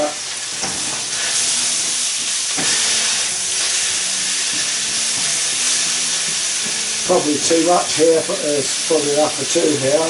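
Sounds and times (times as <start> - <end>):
vegetables sizzling in a wok: 0.0 - 10.0.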